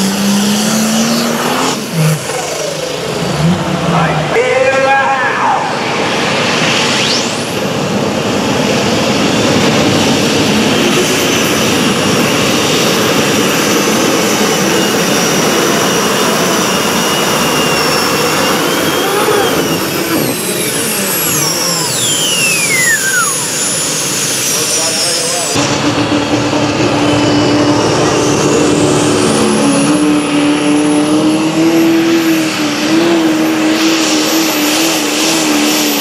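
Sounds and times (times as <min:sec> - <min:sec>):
engine running at full throttle: 0:00.0 - 0:36.0
turbocharger whine: 0:00.0 - 0:36.0.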